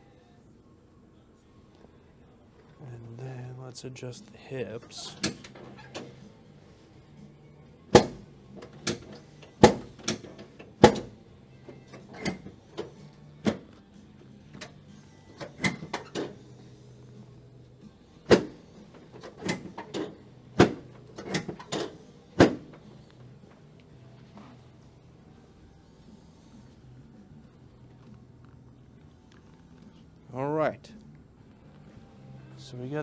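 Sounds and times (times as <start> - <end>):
quiet background music: 0.0 - 33.0.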